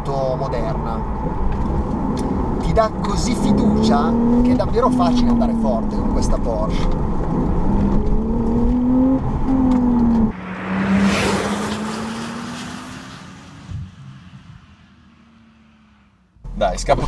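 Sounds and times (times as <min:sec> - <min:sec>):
car engine pulling hard: 0:00.0 - 0:17.0
car driving past: 0:00.8 - 0:16.3.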